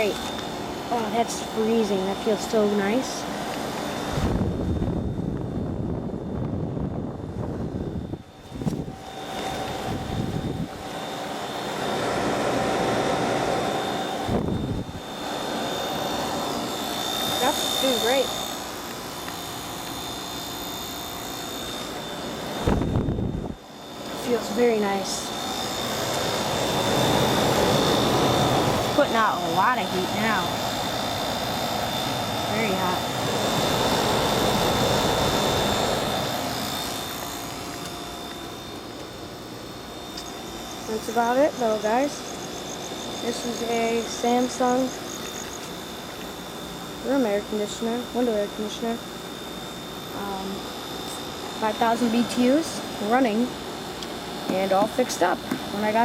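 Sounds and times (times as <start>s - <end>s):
faint whine: 0.0s - 12.0s, 12.9s - 56.0s
air conditioner blowing air: 0.0s - 56.0s.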